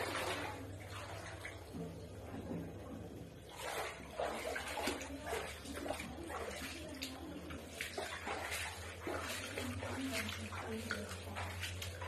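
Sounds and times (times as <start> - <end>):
feet sloshing through water: 0.0 - 2.4, 3.3 - 12.0
low steady hum: 0.0 - 12.0.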